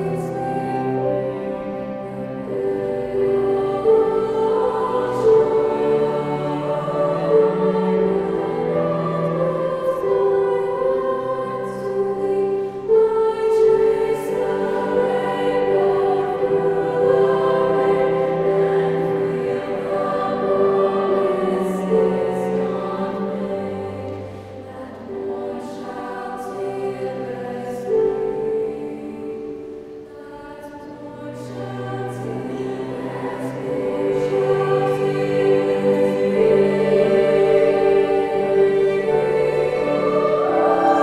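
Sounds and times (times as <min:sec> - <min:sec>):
girls' choir singing: 0:00.0 - 0:41.0.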